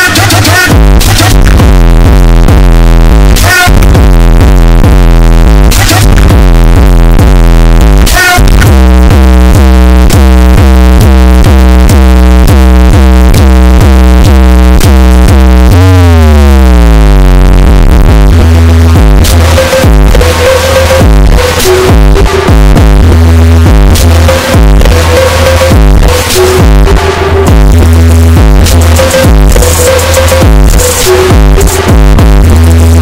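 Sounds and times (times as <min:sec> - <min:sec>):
distorted bass-heavy electronic music: 0:00.0 - 0:33.0.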